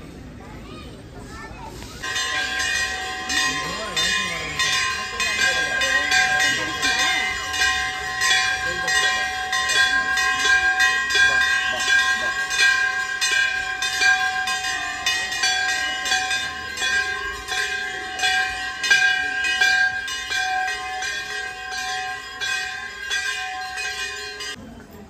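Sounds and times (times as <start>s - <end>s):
metal temple bells ringing: 2.0s - 25.0s.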